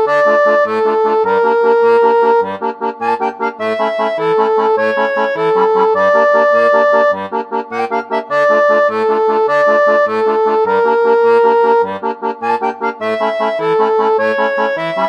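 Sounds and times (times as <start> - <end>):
upbeat oom-pah instrumental music: 0.0 - 15.0.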